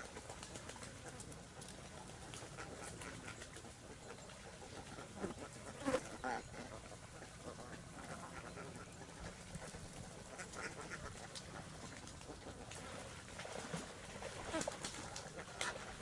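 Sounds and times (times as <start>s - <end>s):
ducks quacking: 0.0s - 13.0s, 14.4s - 16.0s.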